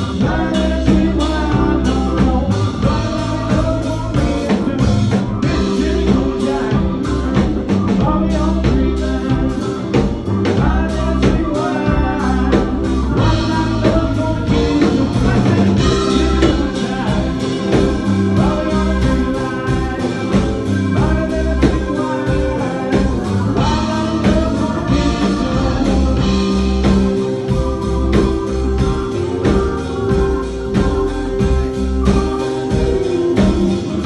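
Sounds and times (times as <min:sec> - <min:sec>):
drum kit: 0:00.0 - 0:34.0
electric guitar: 0:00.0 - 0:34.0
keyboard: 0:00.0 - 0:34.0
person singing: 0:00.0 - 0:34.0.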